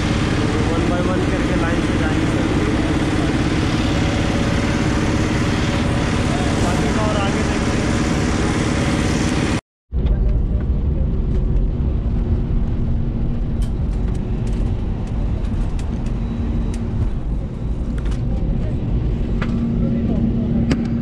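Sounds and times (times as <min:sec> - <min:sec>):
airliner cabin rumble and hum: 0:00.0 - 0:21.0
loud outdoor airport noise: 0:00.0 - 0:21.0.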